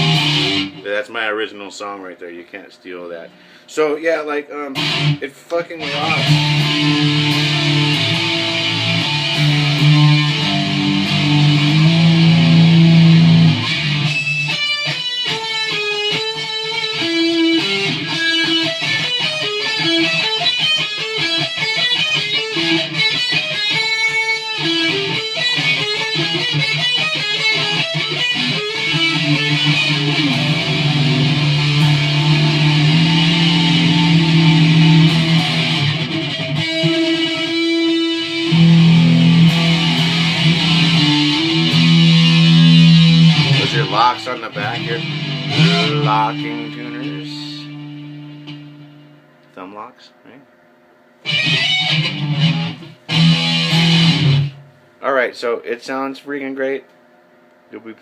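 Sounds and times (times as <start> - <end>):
electric guitar playing: 0.0 - 1.4, 4.6 - 49.4, 51.2 - 54.8.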